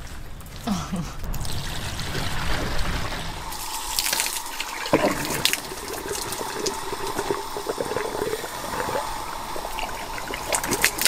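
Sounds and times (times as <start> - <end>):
hose water gushing into tank: 1.3 - 11.0.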